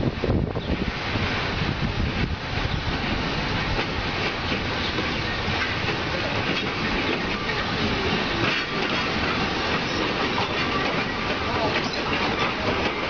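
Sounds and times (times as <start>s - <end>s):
steam hissing: 0.0s - 13.0s
train wheels rumbling: 0.0s - 13.0s
wheels clacking over rail joints: 0.0s - 13.0s.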